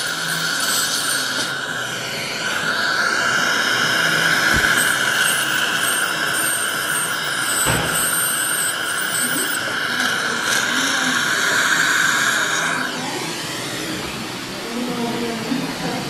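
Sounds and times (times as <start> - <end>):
dental scaler and suction whine: 0.0 - 16.0.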